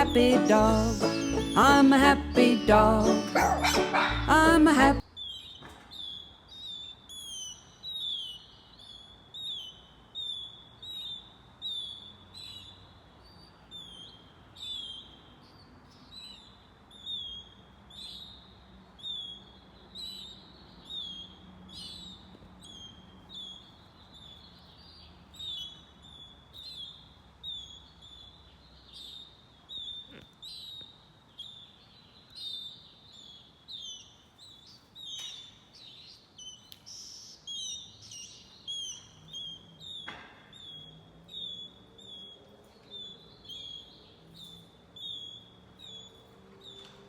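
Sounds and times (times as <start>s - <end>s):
baby birds cheeping: 0.0s - 47.0s.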